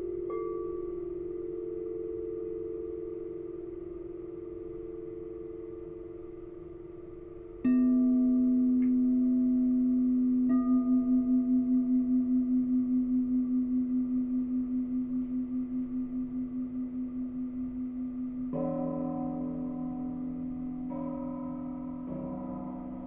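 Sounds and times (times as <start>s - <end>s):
singing bowls ringing: 0.0s - 23.0s.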